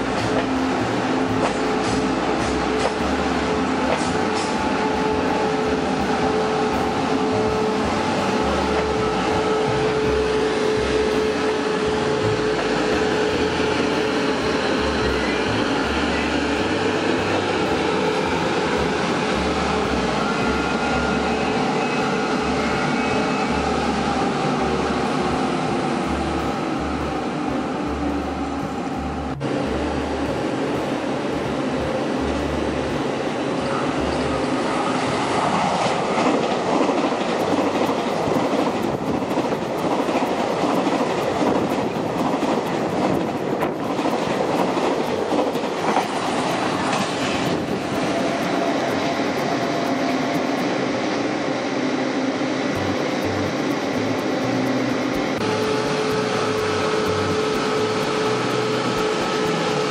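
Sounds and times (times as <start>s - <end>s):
electric train whine: 0.0s - 59.9s
train running rumble: 0.0s - 59.9s.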